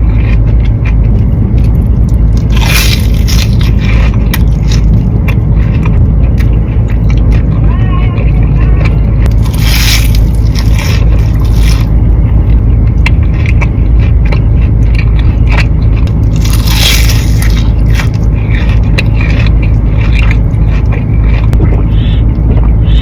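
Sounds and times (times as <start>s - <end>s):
chewing crunchy food: 0.0s - 23.0s
steady low hum: 0.0s - 23.0s.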